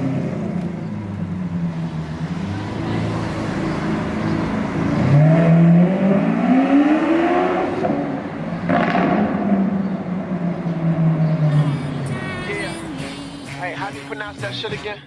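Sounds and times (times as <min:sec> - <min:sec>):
car engine idling and revving: 0:00.0 - 0:14.7.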